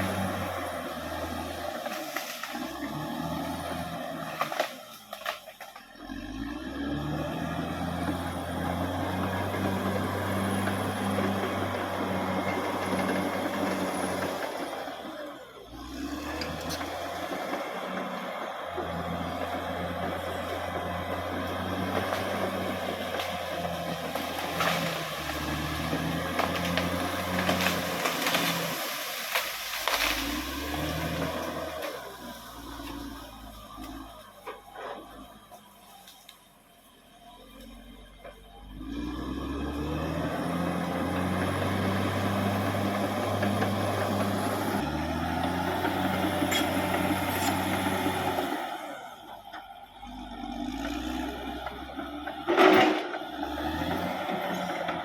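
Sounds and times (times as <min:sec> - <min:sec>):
bulldozer diesel engine working: 0:00.0 - 0:55.0.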